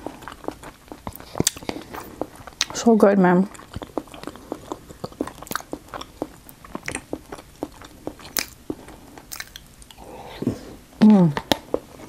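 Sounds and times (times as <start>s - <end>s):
chewing with mouth clicks: 0.0s - 10.0s.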